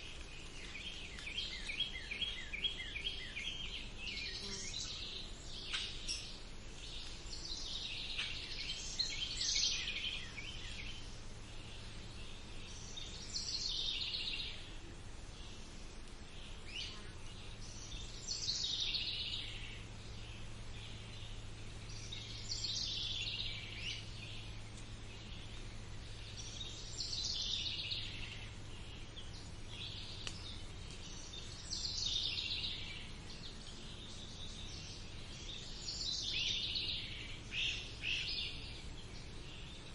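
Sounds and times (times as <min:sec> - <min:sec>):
low background hum: 0:00.0 - 0:39.9
songbird singing: 0:00.0 - 0:39.9.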